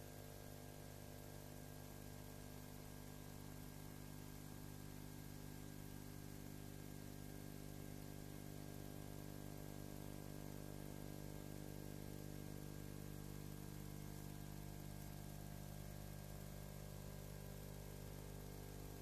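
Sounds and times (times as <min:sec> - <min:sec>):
electrical hum with hiss: 0:00.0 - 0:19.0.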